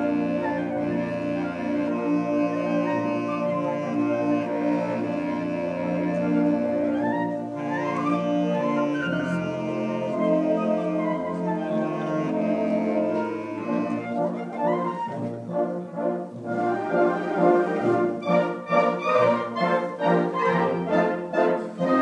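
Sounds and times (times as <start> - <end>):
brass band music: 0.0 - 22.0.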